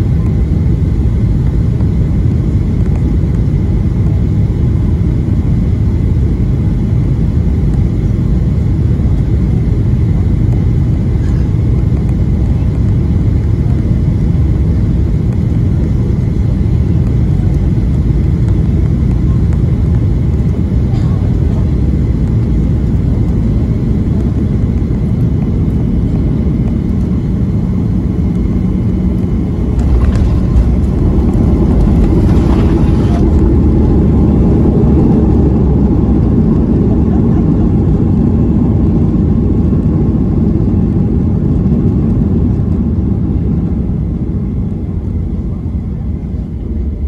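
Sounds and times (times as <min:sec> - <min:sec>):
jet engine rumble: 0:00.0 - 0:47.0
wheels rumbling on runway: 0:08.7 - 0:47.0.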